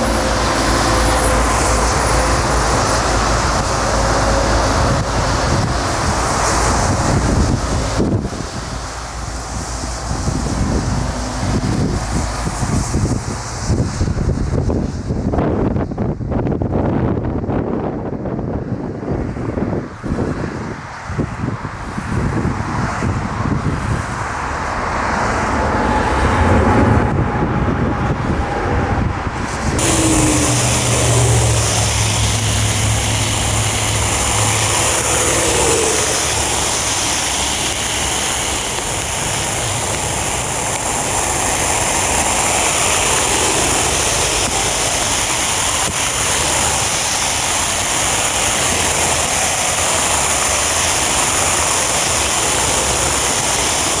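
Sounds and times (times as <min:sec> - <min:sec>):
jet landing: 0:00.0 - 0:15.2, 0:24.4 - 0:54.0
rain: 0:00.0 - 0:17.6, 0:19.2 - 0:27.1, 0:29.6 - 0:54.0
jet engines rumbling: 0:00.0 - 0:54.0
storm wind: 0:00.0 - 0:54.0.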